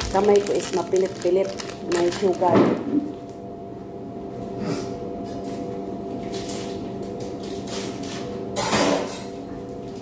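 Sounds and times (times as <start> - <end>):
kitchen equipment humming: 0.0 - 10.0.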